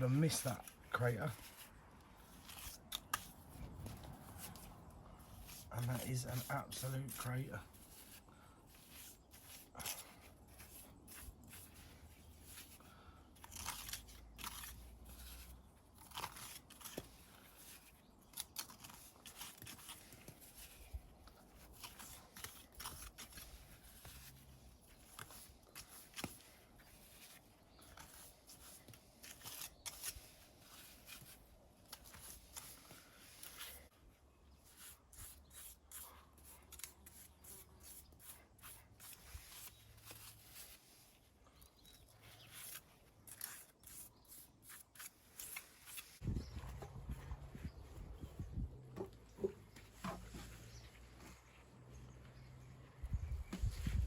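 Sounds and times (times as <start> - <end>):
trowel scraping mortar: 0.0 - 33.9, 34.5 - 41.2, 41.8 - 46.2.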